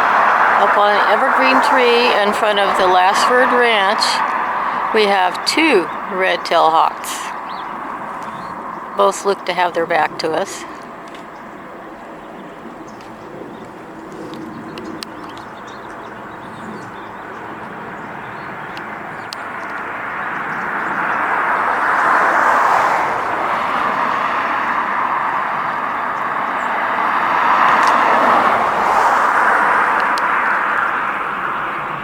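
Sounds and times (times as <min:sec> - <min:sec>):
passing road traffic: 0:00.0 - 0:32.0.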